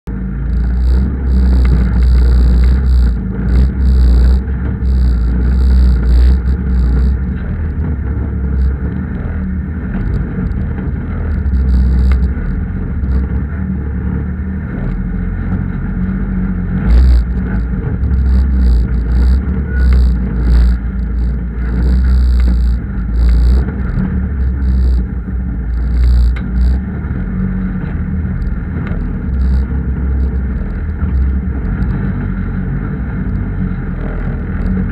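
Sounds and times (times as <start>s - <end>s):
diesel engine rumble: 0.0s - 34.9s
knocks and rattles: 0.4s - 33.6s.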